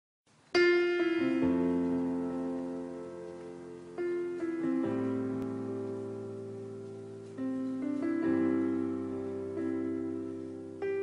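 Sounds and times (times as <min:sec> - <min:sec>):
slow piano chords: 0:00.3 - 0:11.0.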